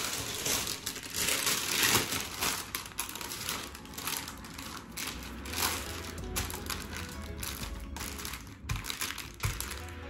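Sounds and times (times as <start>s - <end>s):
crinkling and rustling: 0.0s - 10.0s.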